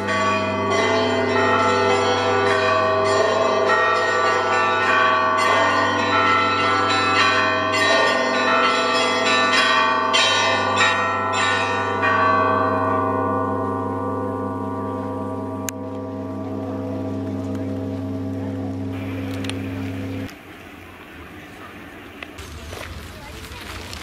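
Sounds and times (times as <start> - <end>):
church bells pealing: 0.0 - 20.3.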